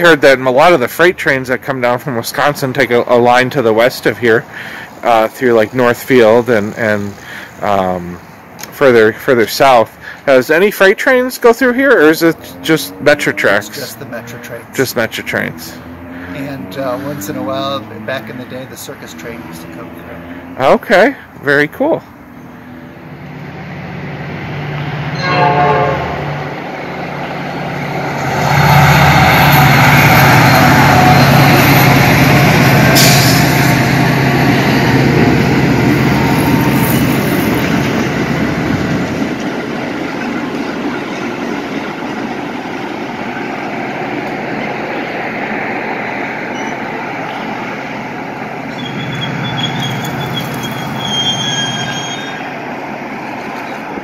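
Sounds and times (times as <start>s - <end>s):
train passing: 0.0s - 54.0s.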